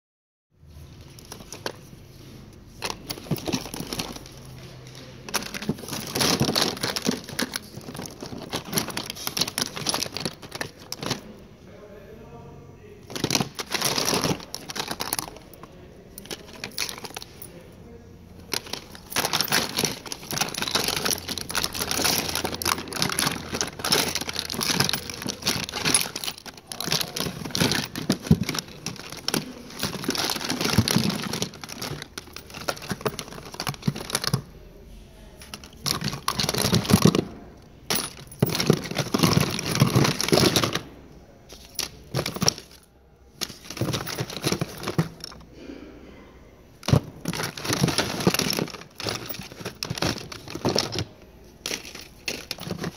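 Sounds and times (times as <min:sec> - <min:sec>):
plastic cosmetics rattling in box: 0:01.0 - 0:02.0, 0:02.7 - 0:11.4, 0:13.0 - 0:17.6, 0:18.4 - 0:34.5, 0:35.4 - 0:45.5, 0:46.7 - 0:52.9
packaging crinkling: 0:02.7 - 0:11.3, 0:13.0 - 0:17.5, 0:18.4 - 0:34.5, 0:35.4 - 0:37.3, 0:37.9 - 0:40.9, 0:41.5 - 0:45.4, 0:46.8 - 0:52.9.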